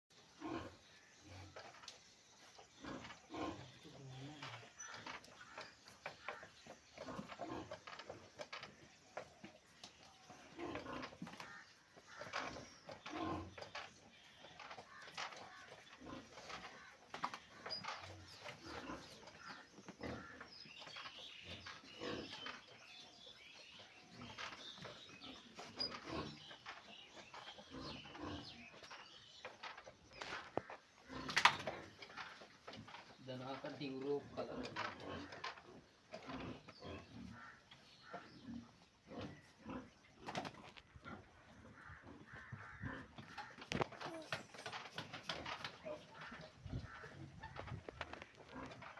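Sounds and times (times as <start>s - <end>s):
small birds chirping: 0.1s - 48.9s
pigs grunting: 0.2s - 1.8s, 2.6s - 9.3s, 10.0s - 48.9s.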